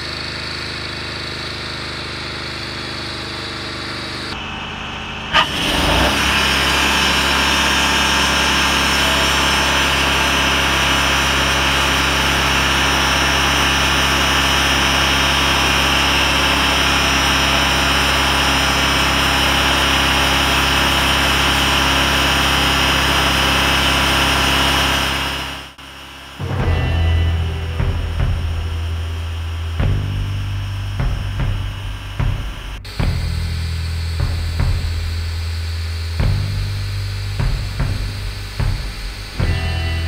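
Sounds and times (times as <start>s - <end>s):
bandsaw sawmill cutting wood: 0.0s - 40.0s.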